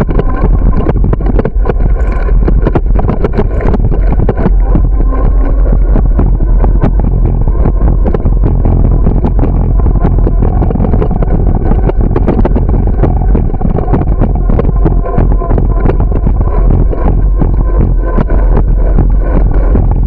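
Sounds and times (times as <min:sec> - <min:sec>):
bicycle tyre noise on concrete: 0:00.0 - 0:20.0
clicks and rattles: 0:00.0 - 0:20.0
wind rumble on microphone: 0:00.0 - 0:20.0.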